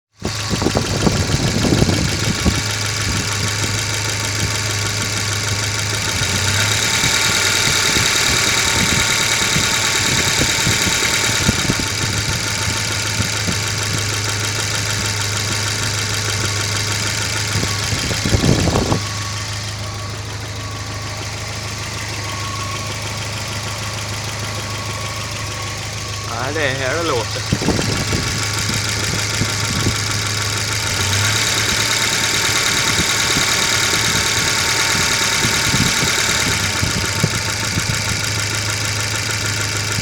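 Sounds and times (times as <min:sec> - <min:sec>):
car engine idling: 0:00.1 - 0:40.0.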